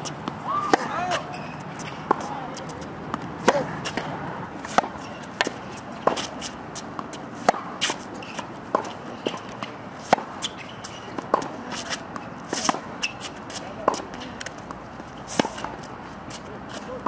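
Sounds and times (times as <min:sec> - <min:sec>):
tennis balls bouncing on hard court: 0:00.0 - 0:17.0
tennis balls struck by racquets: 0:00.0 - 0:17.0.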